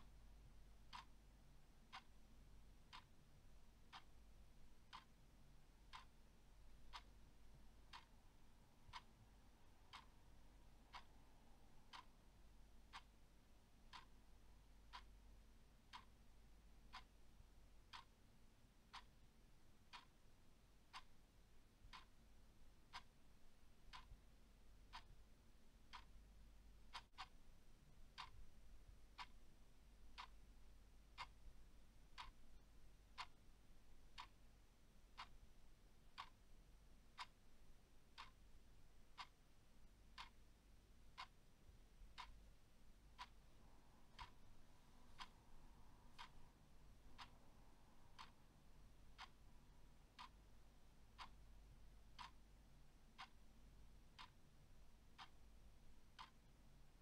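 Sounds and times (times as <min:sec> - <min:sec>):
clock ticking: 0:00.0 - 0:57.0
faint low hum: 0:00.0 - 0:57.0.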